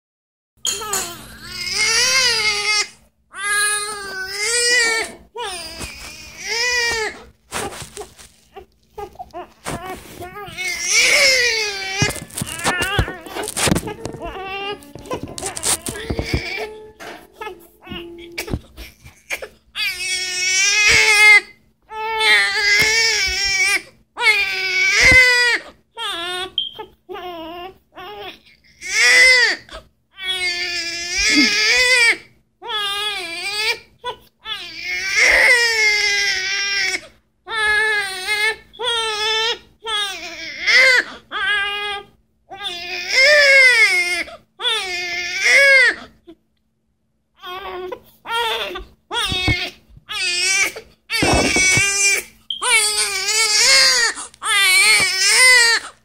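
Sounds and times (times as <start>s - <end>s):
baby crying: 0.7s - 46.1s, 47.4s - 56.0s.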